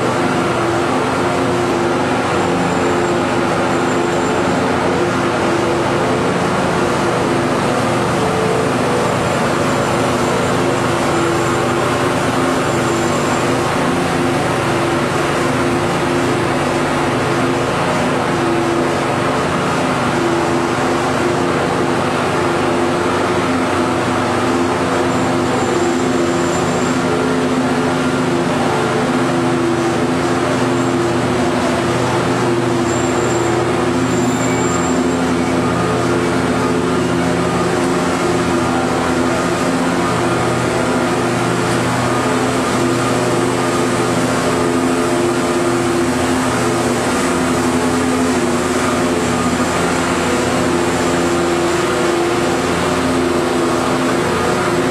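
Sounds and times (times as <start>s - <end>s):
machinery drone: 0.0s - 54.9s.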